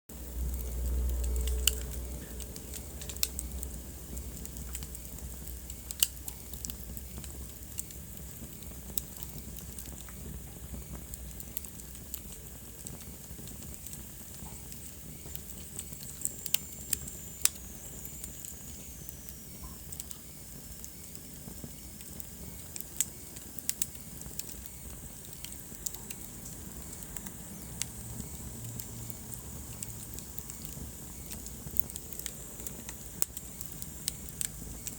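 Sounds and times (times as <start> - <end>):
fire crackling and popping: 0.1 - 34.9
low rumble of flames: 0.1 - 34.9.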